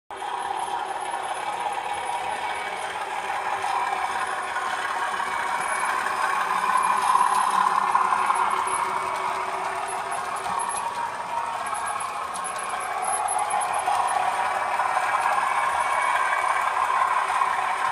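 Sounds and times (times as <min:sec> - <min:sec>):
model train running on track: 0:00.1 - 0:17.9.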